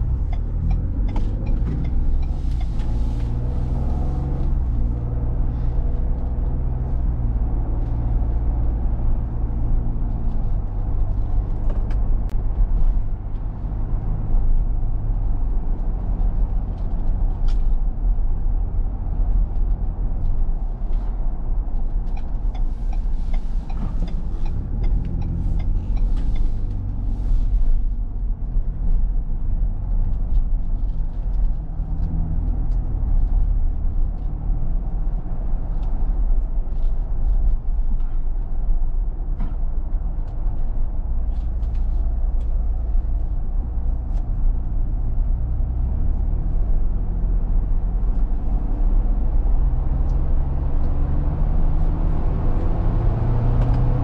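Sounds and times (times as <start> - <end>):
car engine while driving: 0.0 - 54.0
tyre and road noise: 0.0 - 54.0.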